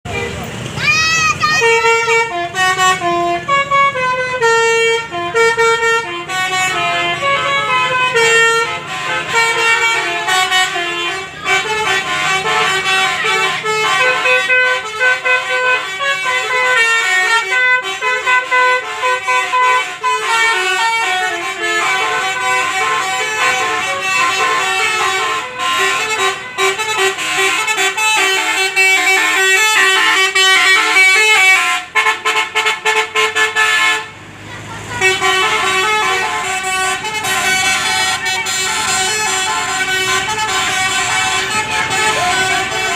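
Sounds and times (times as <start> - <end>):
bus horn playing melody: 1.0 - 42.9.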